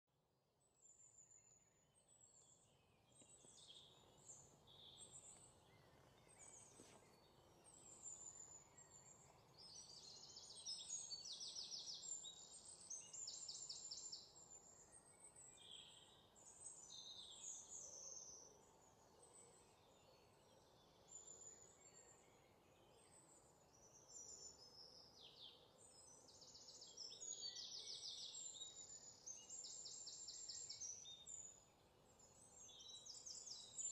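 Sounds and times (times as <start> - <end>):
small birds chirping and trilling: 0.7 - 33.9.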